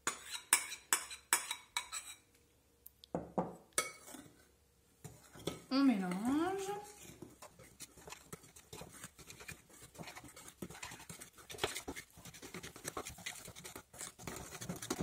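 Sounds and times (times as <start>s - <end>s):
spoon scraping batter in bowl: 0.0s - 2.3s, 3.8s - 15.0s.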